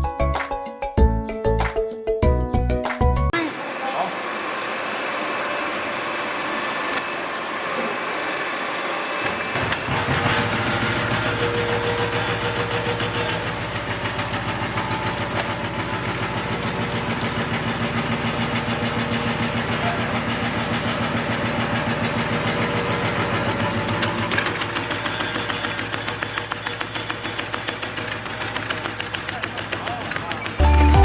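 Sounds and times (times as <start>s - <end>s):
machine motor hum: 3.4s - 31.0s.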